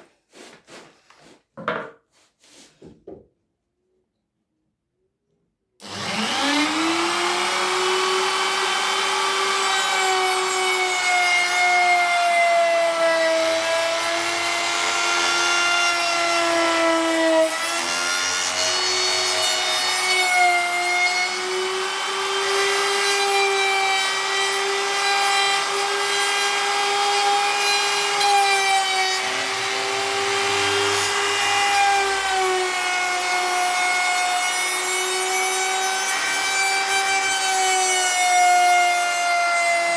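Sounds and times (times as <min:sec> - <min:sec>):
electric power tool whining: 0:05.8 - 0:39.9.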